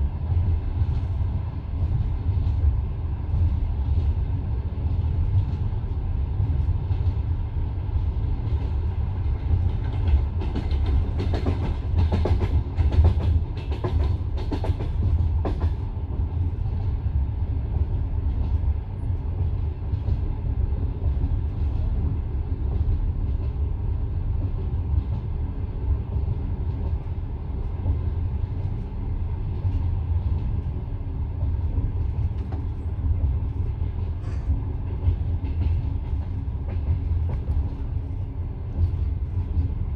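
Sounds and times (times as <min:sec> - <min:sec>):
train wheels rumbling on rails: 0:00.0 - 0:39.9
wheels clickety-clack over rail joints: 0:00.0 - 0:39.9.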